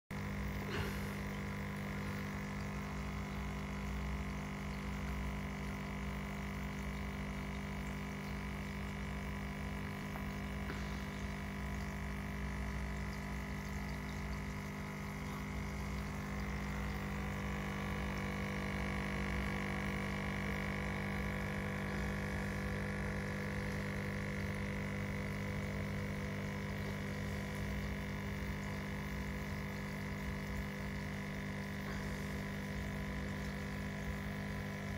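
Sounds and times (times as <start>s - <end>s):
aquarium pump humming: 0.1s - 34.9s
water running into tank: 0.1s - 34.9s.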